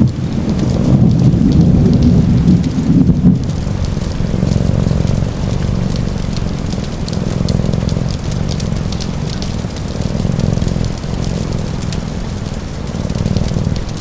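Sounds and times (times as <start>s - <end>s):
deep low rumble: 0.0s - 14.0s
fireplace fire crackling: 0.0s - 14.0s
steady rain: 0.0s - 14.0s.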